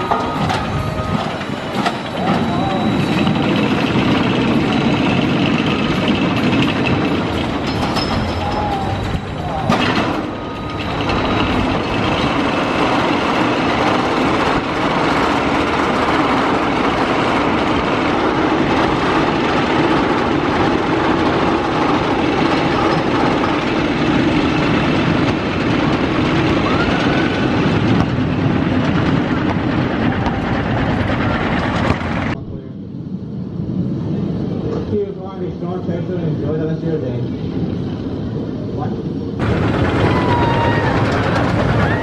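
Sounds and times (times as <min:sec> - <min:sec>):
roller coaster rumbling roar: 0:00.0 - 0:42.0.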